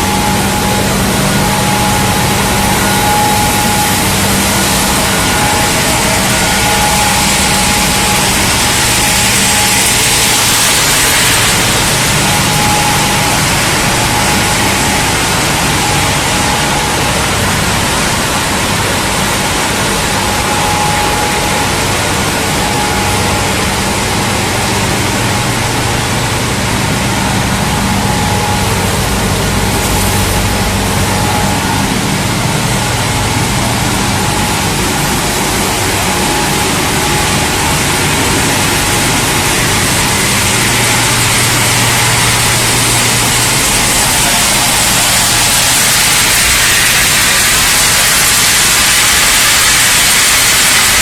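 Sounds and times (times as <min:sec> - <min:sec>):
faint steady whine: 0:00.0 - 0:51.0
industrial machinery roar: 0:00.0 - 0:51.0
low hum: 0:00.0 - 0:51.0.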